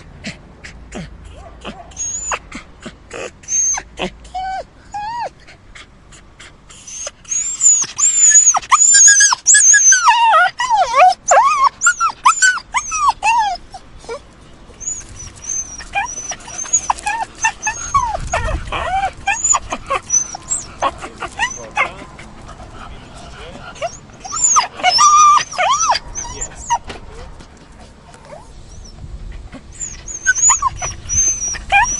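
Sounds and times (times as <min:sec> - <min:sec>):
dog whimpering and crying: 0:00.3 - 0:22.6, 0:23.2 - 0:31.9.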